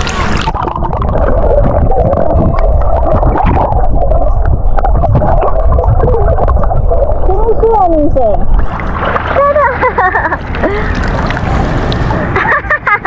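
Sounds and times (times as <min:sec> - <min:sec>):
muffled underwater rumble: 0:00.0 - 0:13.0
water bubbling and gurgling: 0:00.0 - 0:13.0.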